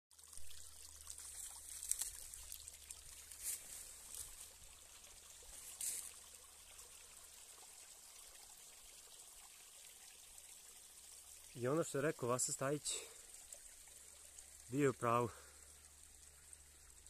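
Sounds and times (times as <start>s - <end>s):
stream trickling over rocks: 0.1s - 17.0s.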